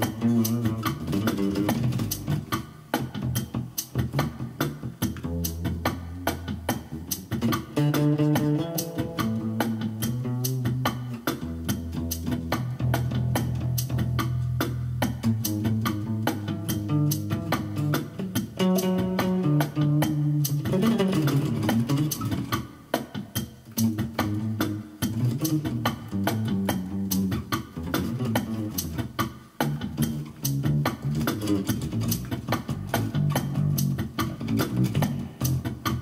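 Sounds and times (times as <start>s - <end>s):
electric bass playing low notes: 0.0s - 22.7s, 23.6s - 36.0s
drum machine beat: 0.0s - 36.0s.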